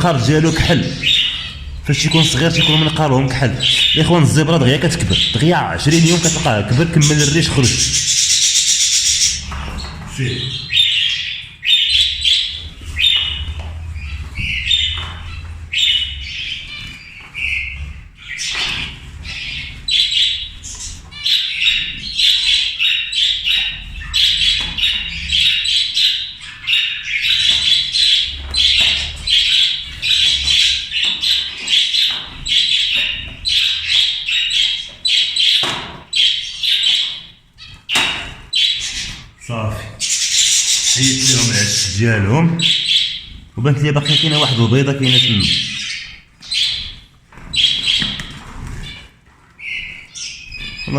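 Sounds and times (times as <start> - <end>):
finches calling: 0.0 - 50.9.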